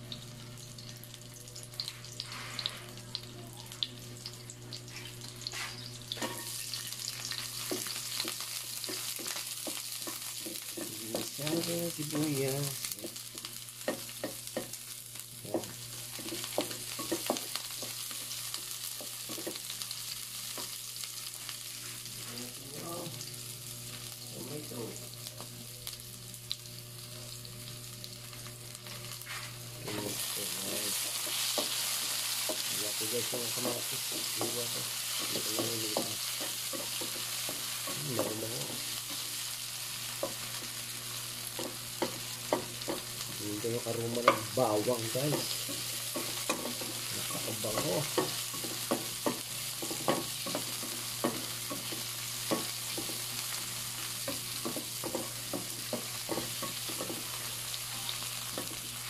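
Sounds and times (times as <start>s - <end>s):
garlic and onion sizzling in oil: 0.0s - 59.0s.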